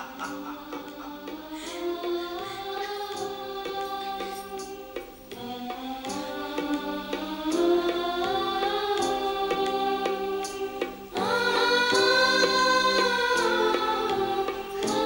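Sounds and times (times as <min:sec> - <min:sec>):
choir-like voices holding notes: 0:00.0 - 0:15.0
percussion strikes: 0:00.0 - 0:15.0.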